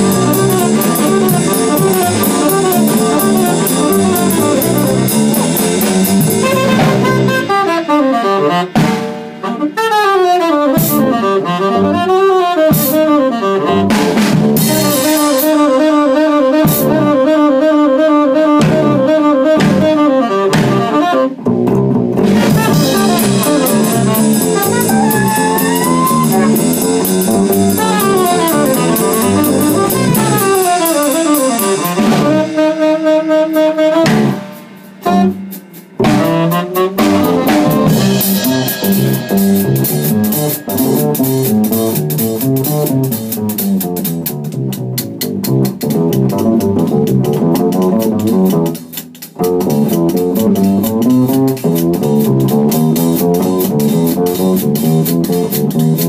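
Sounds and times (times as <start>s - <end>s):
double bass: 0.0s - 9.7s, 10.5s - 34.4s, 35.0s - 56.0s
saxophone: 0.0s - 21.6s, 22.2s - 55.6s
drum kit: 0.0s - 56.0s.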